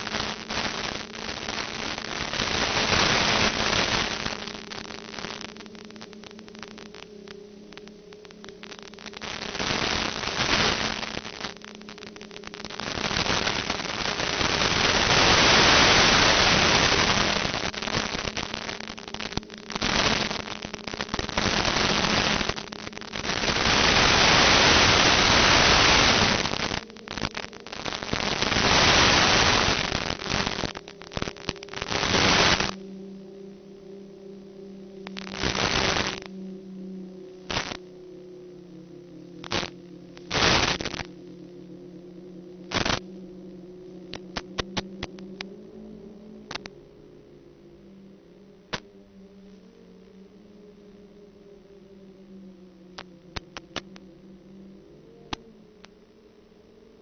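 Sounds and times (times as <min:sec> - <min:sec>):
hiss and crackling static: 0:00.0 - 0:57.0
steady low hum: 0:00.0 - 0:57.0.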